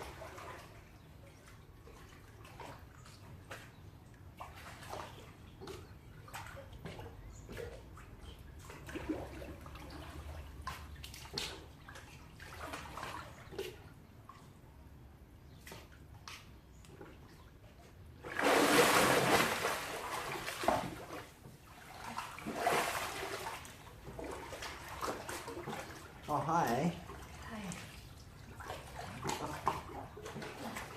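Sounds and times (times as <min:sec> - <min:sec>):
water splashing in pool: 0:00.0 - 0:14.6, 0:18.0 - 0:30.9
water lapping: 0:00.0 - 0:14.8, 0:15.4 - 0:30.9.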